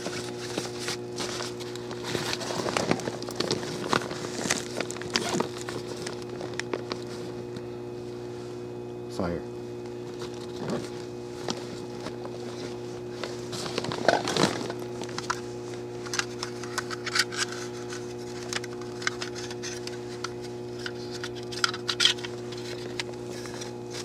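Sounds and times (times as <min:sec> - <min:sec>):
gear clicking and rustling: 0:00.0 - 0:08.2, 0:09.8 - 0:24.0
transformer humming: 0:00.8 - 0:24.0.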